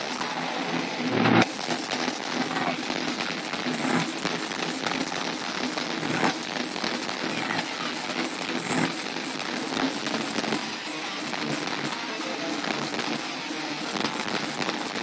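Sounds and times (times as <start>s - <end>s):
distorted concert crowd noise: 0.0s - 15.0s.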